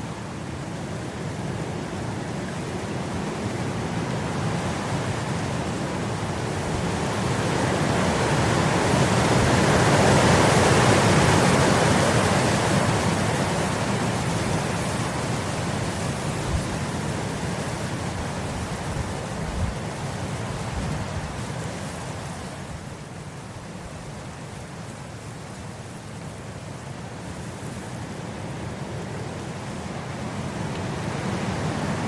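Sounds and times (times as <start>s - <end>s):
wind blowing through grass: 0.0s - 32.0s.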